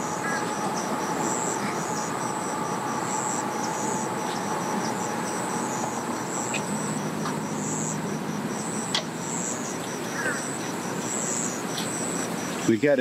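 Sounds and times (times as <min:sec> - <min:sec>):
low drone: 0:00.0 - 0:12.4
insects chirping: 0:00.0 - 0:13.0
steady outdoor hum: 0:00.0 - 0:13.0.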